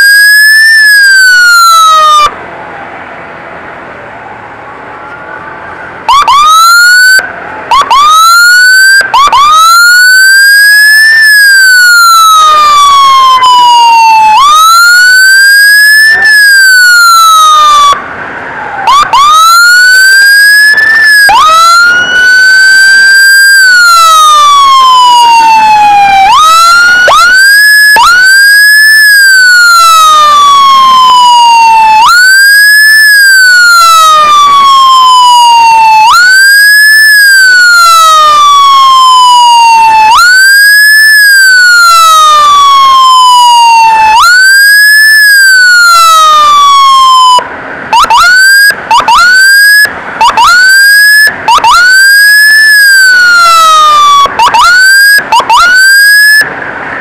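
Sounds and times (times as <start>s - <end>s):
emergency siren: 0.0s - 3.8s, 4.9s - 57.0s.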